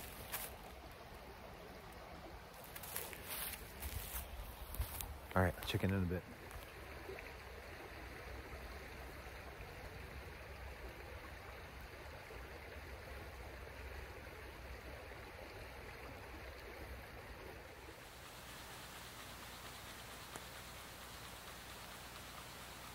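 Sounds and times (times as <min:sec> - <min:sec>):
creek flowing: 0:00.0 - 0:22.9.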